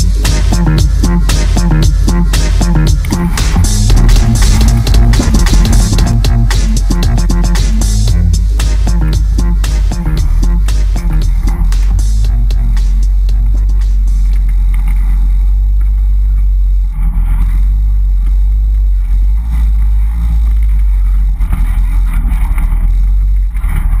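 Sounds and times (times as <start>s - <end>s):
vehicle engine rumbling: 0.0s - 24.0s.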